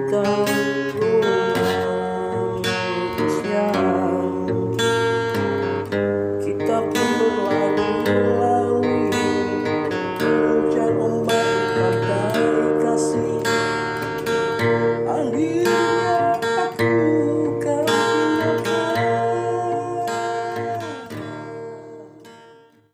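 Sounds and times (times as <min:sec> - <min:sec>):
out of tune acoustic guitar: 0:00.0 - 0:22.9.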